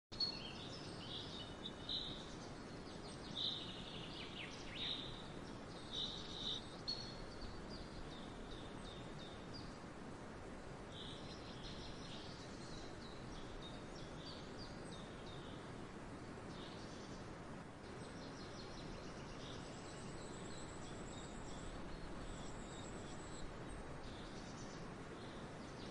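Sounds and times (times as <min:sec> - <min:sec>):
outdoor background hiss: 0:00.1 - 0:25.9
birds chirping: 0:00.2 - 0:09.9, 0:10.8 - 0:25.9.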